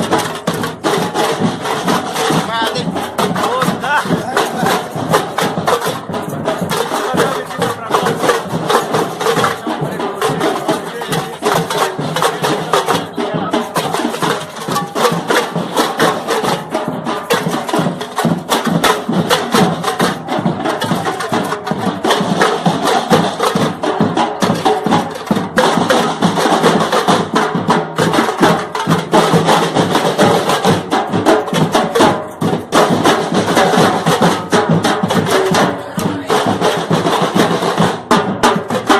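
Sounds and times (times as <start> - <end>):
percussion group drumming fast rhythm: 0.0 - 38.9.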